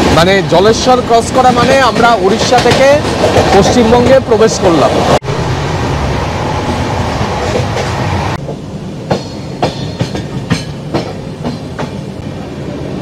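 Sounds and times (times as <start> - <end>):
train wheel and wind noise: 0.0 - 13.0.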